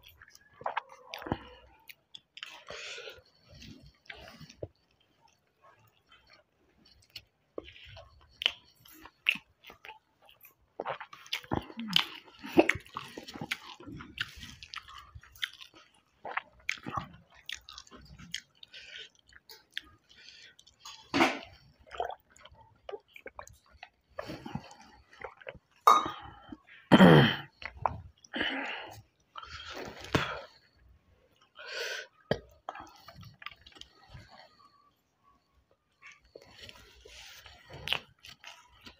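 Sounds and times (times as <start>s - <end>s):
man chewing: 0.0s - 26.5s, 27.5s - 38.9s.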